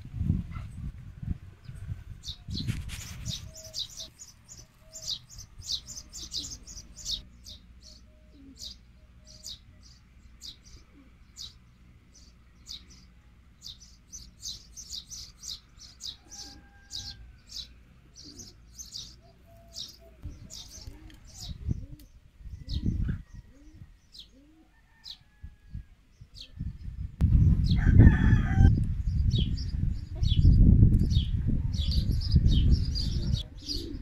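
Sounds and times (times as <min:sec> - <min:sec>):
small birds chirping: 0:01.6 - 0:25.4, 0:26.1 - 0:34.0.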